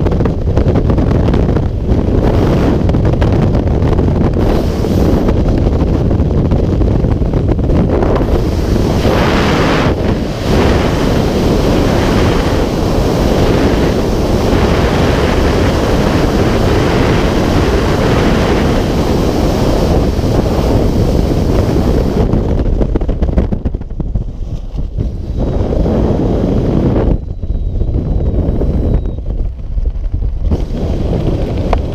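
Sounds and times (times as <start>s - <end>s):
wind roaring over microphone: 0.0s - 31.9s.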